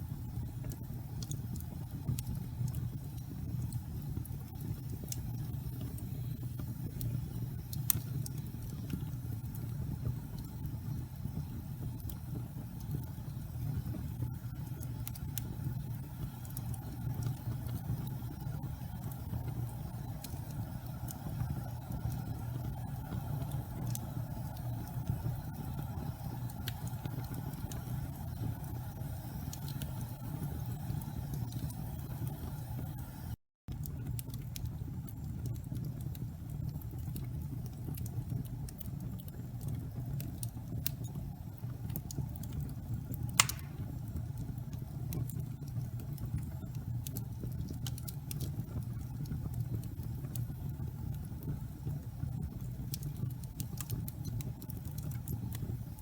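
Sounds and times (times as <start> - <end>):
fire crackles and pops: 0.0 - 56.0
fire rumbling: 0.0 - 56.0.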